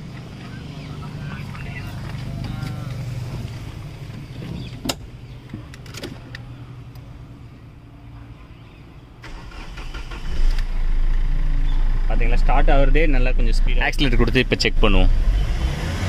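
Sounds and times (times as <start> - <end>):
diesel engine starting and running: 0.0 - 16.0.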